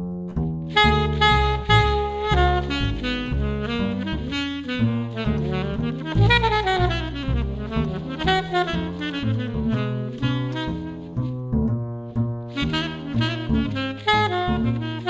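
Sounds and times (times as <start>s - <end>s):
bass line: 0.0s - 15.0s
saxophone jazz melody: 0.6s - 15.0s.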